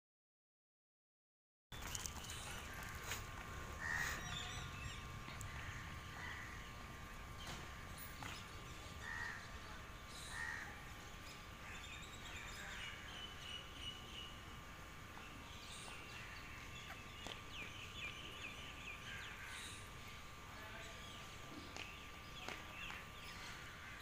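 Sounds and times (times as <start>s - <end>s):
birds chirping: 1.7s - 24.0s
thin high hum: 1.7s - 24.0s.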